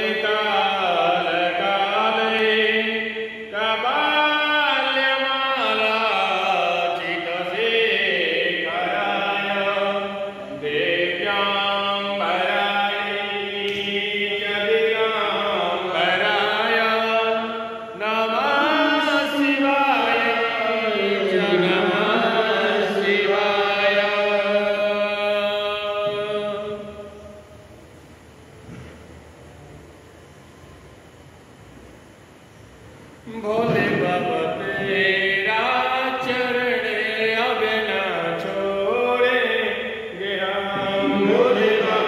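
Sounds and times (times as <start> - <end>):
person chanting mantra: 0.0 - 27.6, 33.2 - 42.0.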